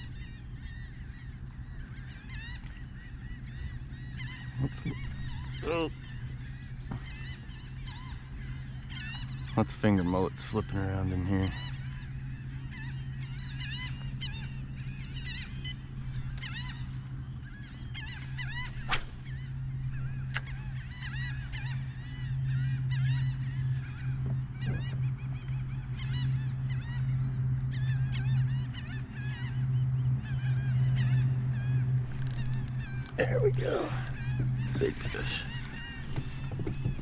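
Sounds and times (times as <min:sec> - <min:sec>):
low hum: 0:00.0 - 0:37.0
waterbirds honking: 0:00.0 - 0:37.0.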